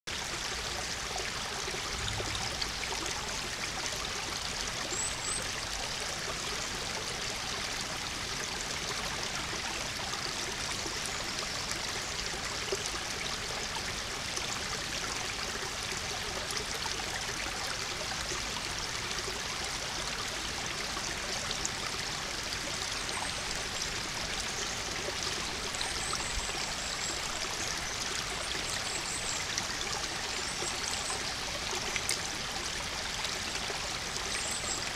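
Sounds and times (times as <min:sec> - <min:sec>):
stream running over stones: 0:00.1 - 0:34.9.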